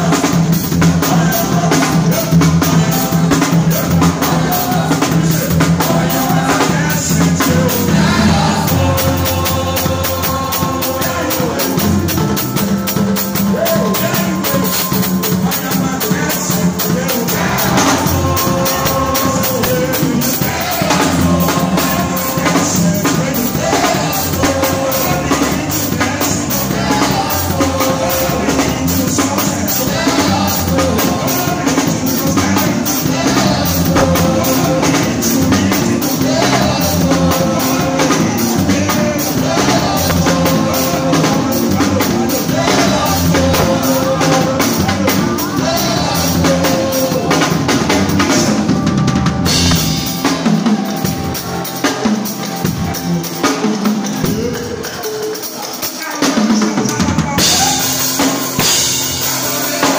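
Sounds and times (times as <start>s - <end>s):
bass line: 0.0s - 50.3s
drum kit with cymbals: 0.0s - 59.9s
guitar: 0.0s - 59.9s
people singing: 0.0s - 59.9s.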